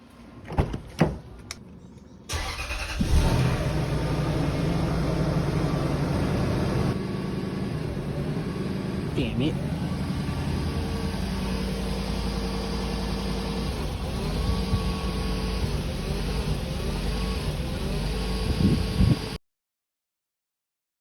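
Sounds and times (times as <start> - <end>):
car engine idling with misfire: 2.3 - 19.3.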